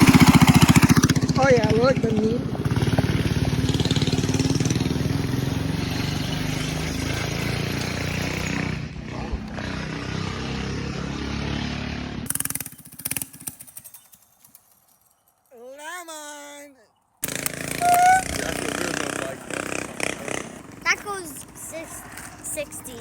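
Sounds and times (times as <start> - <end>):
small engine running: 0.0 - 14.2, 17.2 - 23.0.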